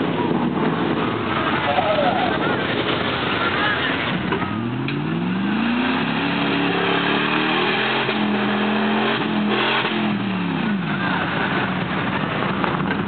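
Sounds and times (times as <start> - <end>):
tires spinning in mud: 0.0 - 13.0
pickup engine revving hard: 2.2 - 13.0.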